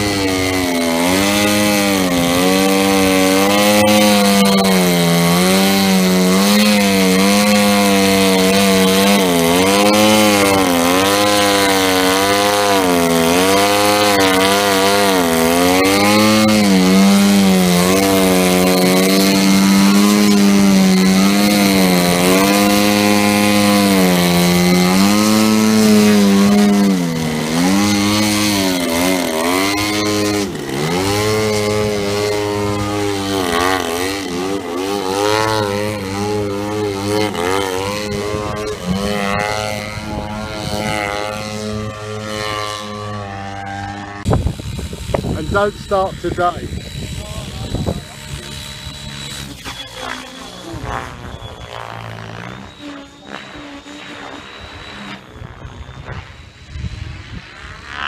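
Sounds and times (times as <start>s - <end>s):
model airplane engine and propeller: 0.0s - 58.0s.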